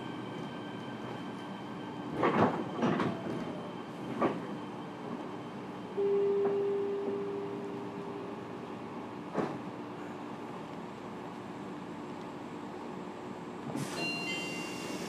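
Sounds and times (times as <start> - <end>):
train equipment hum: 0.0 - 15.0.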